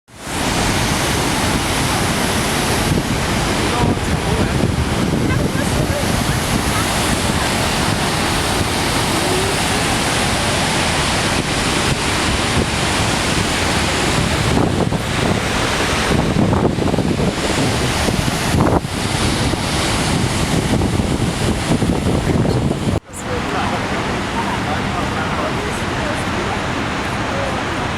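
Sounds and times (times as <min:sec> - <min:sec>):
waterfall roaring: 0:00.1 - 0:27.9
wind buffeting microphone: 0:00.2 - 0:27.9.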